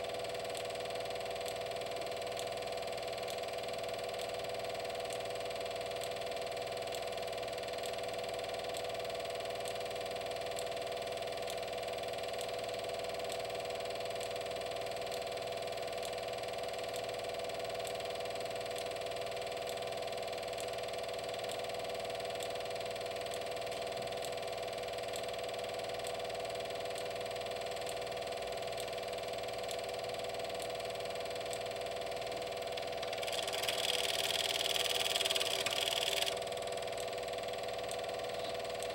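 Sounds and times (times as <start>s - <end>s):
faint projector ticks: 0.0s - 38.9s
film projector motor whirring: 0.0s - 38.9s.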